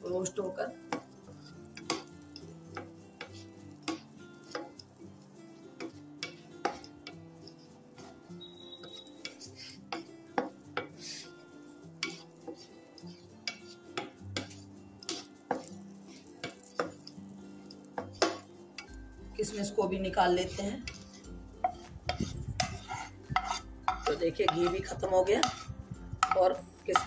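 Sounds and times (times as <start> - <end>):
faint background music: 0.0 - 27.0
spoon scraping metal pan: 0.8 - 27.0.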